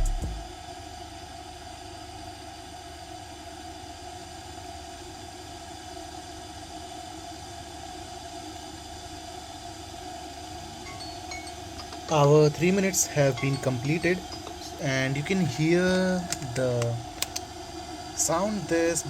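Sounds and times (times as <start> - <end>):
electric kettle boiling water: 0.1 - 19.0.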